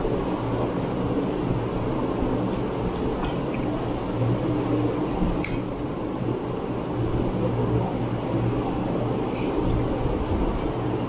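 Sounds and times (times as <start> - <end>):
electric fan humming: 0.0 - 11.0.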